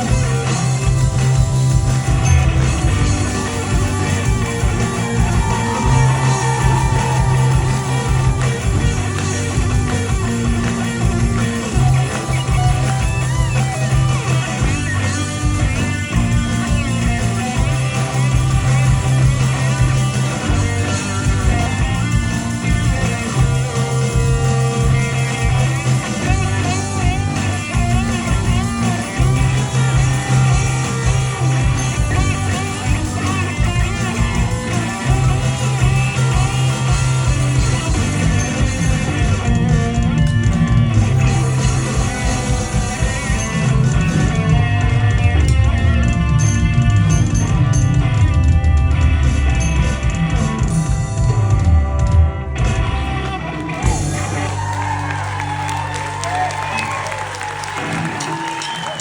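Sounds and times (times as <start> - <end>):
repeating bass line: 0.0 - 57.0
electric guitar lead: 0.0 - 59.0.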